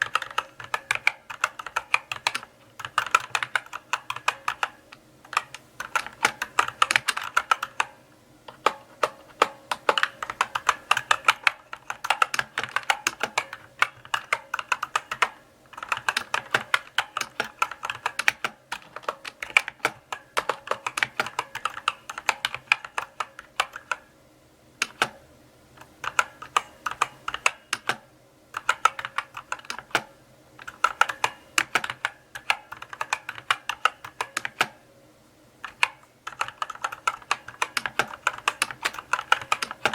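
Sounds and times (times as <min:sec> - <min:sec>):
mechanical keyboard typing: 0:00.0 - 0:24.1, 0:24.8 - 0:25.2, 0:25.8 - 0:34.8, 0:35.6 - 0:39.9.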